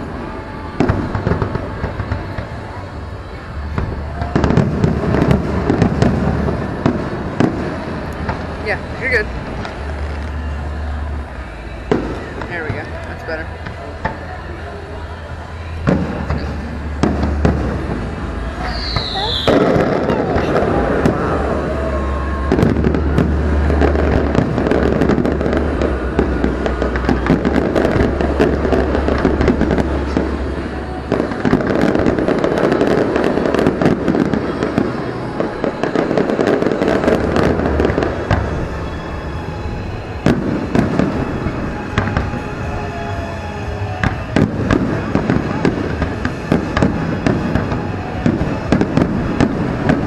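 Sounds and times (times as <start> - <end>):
fireworks bursting and crackling: 0.0 - 50.0.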